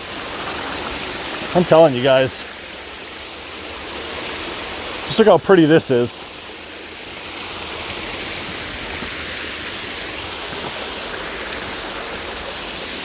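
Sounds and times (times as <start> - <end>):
small waterfall splashing: 0.0 - 13.0.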